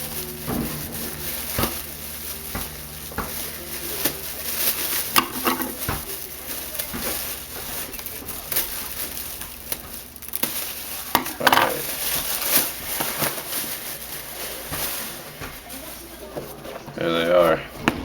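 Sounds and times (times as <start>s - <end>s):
packaging rustling and crinkling: 0.0s - 18.0s.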